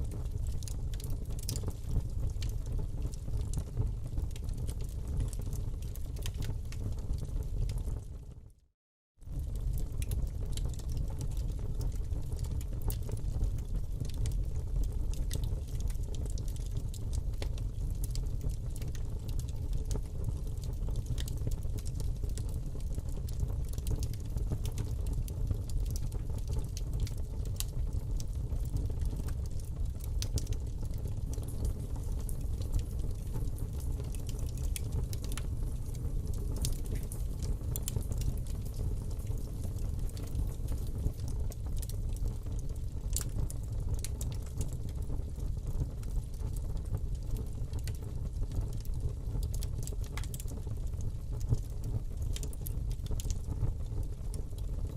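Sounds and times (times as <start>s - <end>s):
fire crackles and pops: 0.0s - 8.6s, 9.2s - 54.9s
fire rumbling in fireplace: 0.0s - 8.6s, 9.2s - 54.9s.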